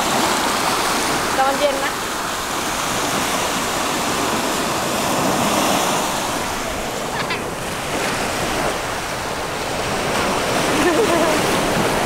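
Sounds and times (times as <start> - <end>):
waves washing on sandy beach: 0.0 - 12.0.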